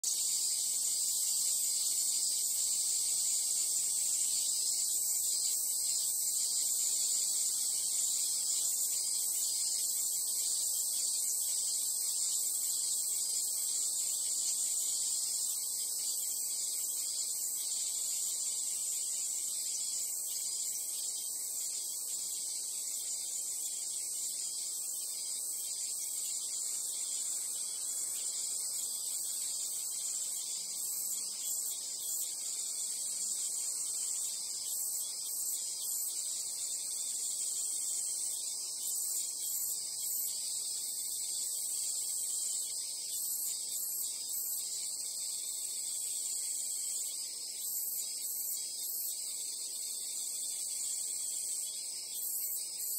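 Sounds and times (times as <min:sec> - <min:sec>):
cicadas buzzing: 0:00.0 - 0:52.9.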